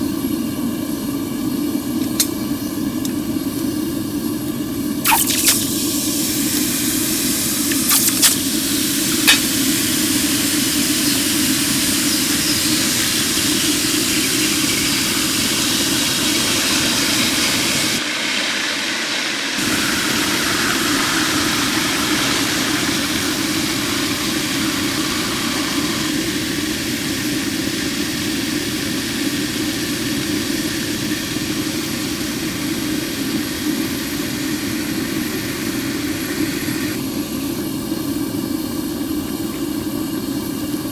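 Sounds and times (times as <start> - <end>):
water boiling with steam hiss: 0.0 - 40.9.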